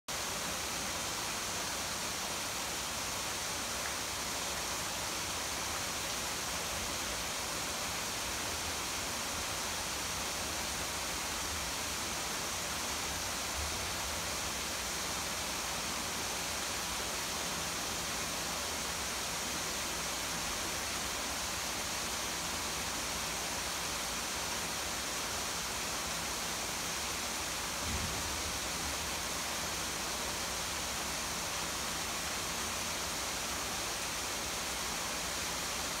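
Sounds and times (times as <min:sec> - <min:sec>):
rainfall: 0:00.1 - 0:36.0.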